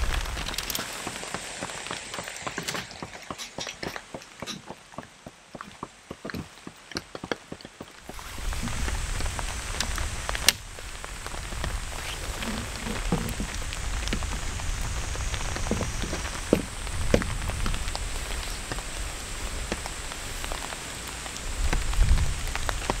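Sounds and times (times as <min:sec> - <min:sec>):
wind buffeting microphone: 0:00.0 - 0:04.5, 0:08.0 - 0:23.0
rain on wooden deck and tent: 0:00.0 - 0:23.0.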